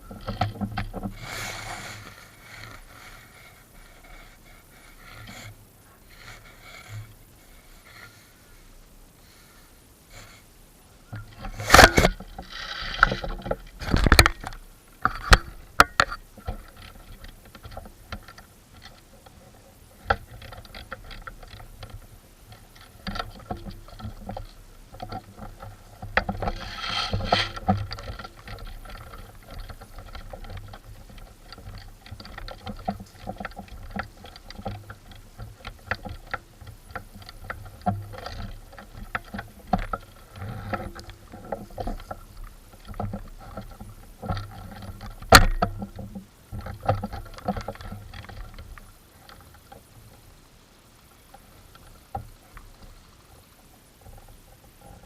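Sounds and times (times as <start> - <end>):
rustling through undergrowth: 0.0 - 55.0.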